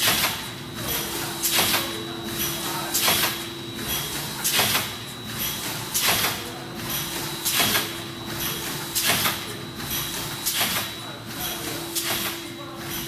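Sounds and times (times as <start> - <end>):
machine hum: 0.0 - 13.0
packing machine hissing bursts: 0.0 - 13.0.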